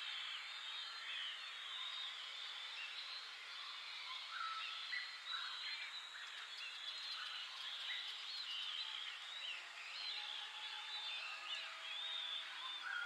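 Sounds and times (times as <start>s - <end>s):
small birds singing and chirping: 0.3s - 13.0s.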